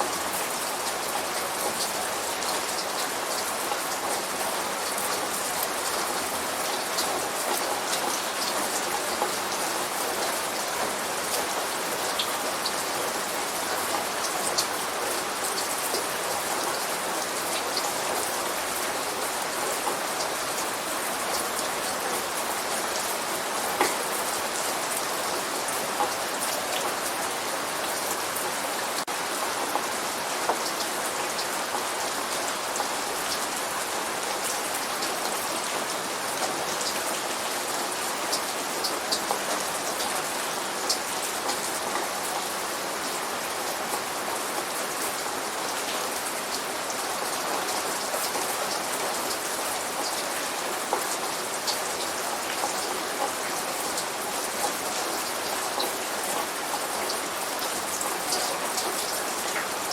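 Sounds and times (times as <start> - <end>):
light rain falling: 0.0 - 59.9
raindrops ticking on a surface: 0.0 - 59.9.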